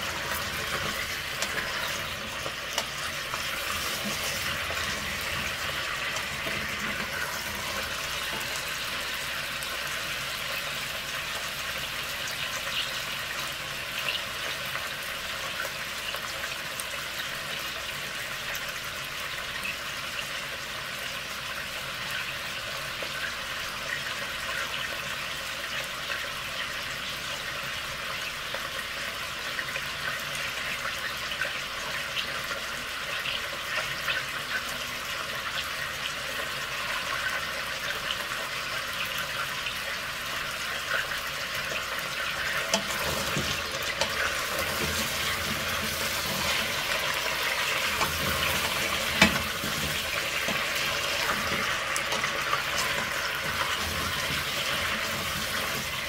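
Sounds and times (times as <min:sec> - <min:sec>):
potatoes sizzling in hot oil: 0:00.0 - 0:56.0.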